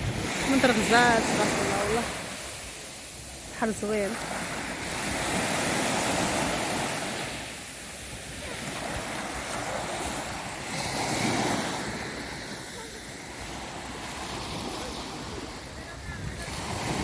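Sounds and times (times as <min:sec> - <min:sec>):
sea waves breaking on shore: 0:00.0 - 0:17.0
wind on microphone: 0:00.0 - 0:17.0.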